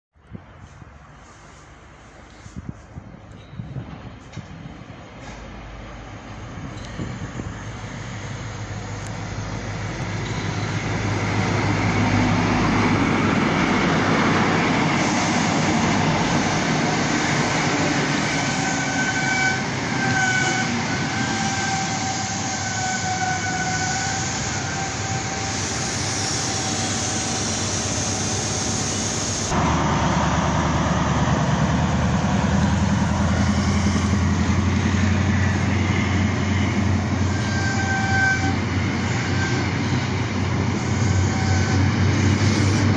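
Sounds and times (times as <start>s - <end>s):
diesel train rumble: 0.2s - 42.9s
high wavering squeal of train wheels: 0.6s - 5.4s, 10.1s - 29.6s, 32.6s - 42.9s.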